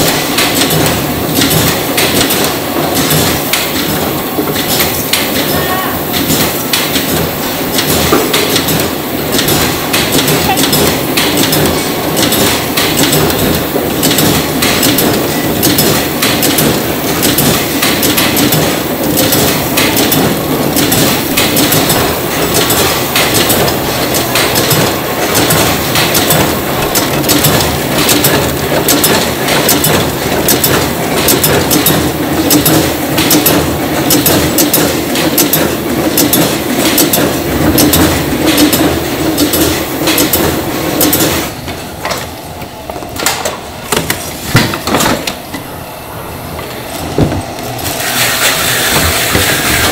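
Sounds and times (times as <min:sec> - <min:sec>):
steady mechanical din: 0:00.0 - 0:42.3, 0:46.6 - 0:49.9
machinery clattering clicks and knocks: 0:00.0 - 0:45.6.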